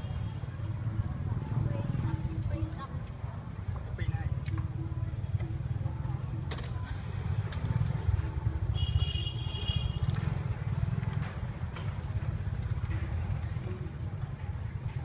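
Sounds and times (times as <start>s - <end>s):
motorbike traffic rumble: 0.0s - 15.0s.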